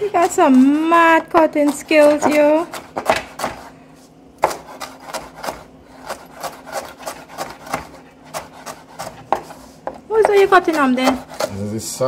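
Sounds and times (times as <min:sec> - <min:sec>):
knife chopping on wooden board: 0:00.1 - 0:03.7, 0:04.4 - 0:11.7.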